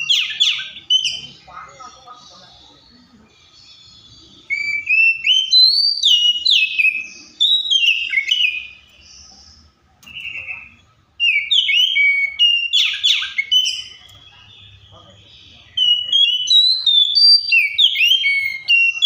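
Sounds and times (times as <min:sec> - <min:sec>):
bird singing whistled notes: 0:00.0 - 0:19.0.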